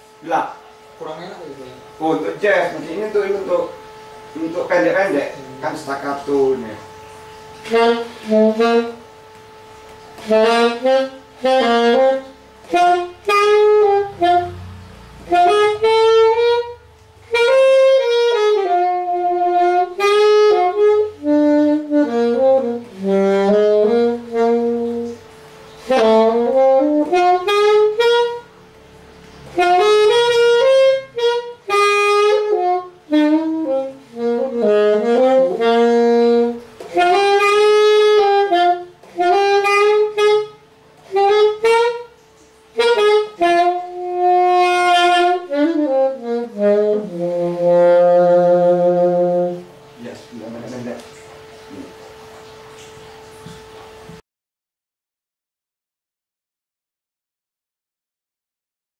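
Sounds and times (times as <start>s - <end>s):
saxophone melody: 0.0s - 54.2s.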